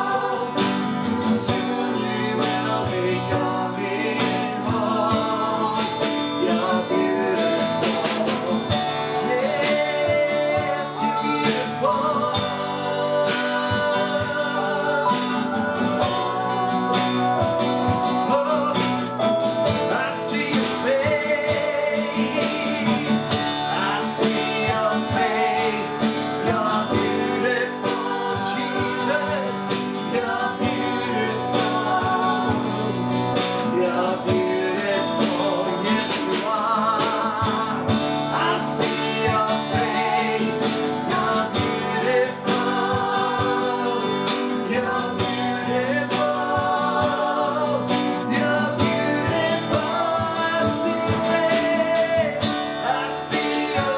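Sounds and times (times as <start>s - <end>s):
guitar accompaniment: 0.0s - 53.9s
voices singing: 0.0s - 53.9s.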